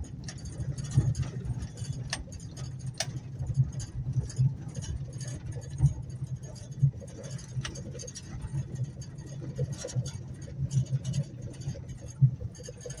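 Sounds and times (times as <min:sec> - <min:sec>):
crackle: 0:00.0 - 0:13.0
engine and tyre rumble: 0:00.0 - 0:13.0.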